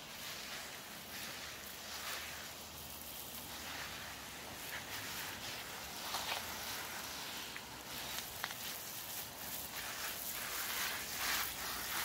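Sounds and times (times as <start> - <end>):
garden hose spraying onto soil: 0.0 - 12.0.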